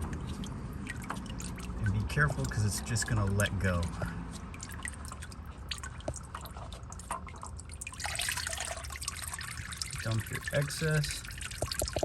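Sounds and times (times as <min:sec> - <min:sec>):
oil dripping into a drain pan: 0:00.0 - 0:12.0.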